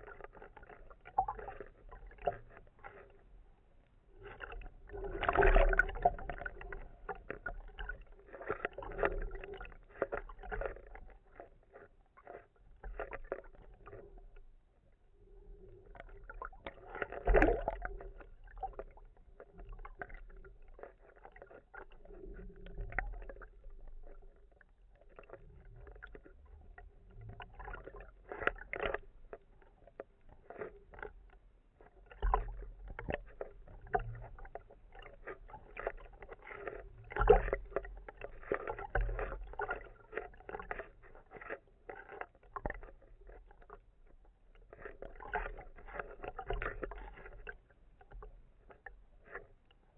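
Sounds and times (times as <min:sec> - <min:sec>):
water sloshing against housing: 0:00.0 - 0:14.4, 0:15.4 - 0:49.9.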